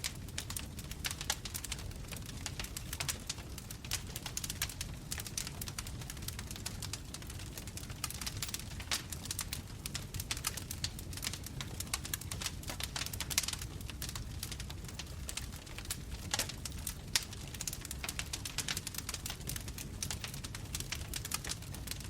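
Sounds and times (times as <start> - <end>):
low rumble of flames: 0.0 - 22.0
wood fire popping and snapping: 0.0 - 22.0.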